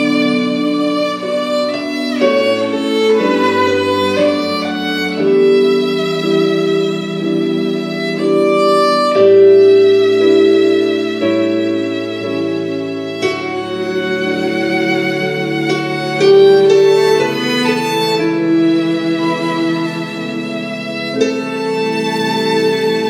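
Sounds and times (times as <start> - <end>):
bowed violin melody: 0.0 - 23.0.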